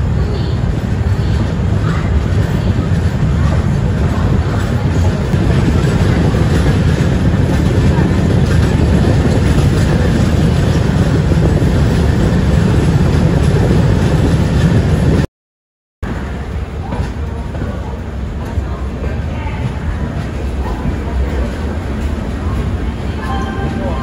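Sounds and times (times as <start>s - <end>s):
train rumbling: 0.0s - 15.3s, 16.0s - 24.0s.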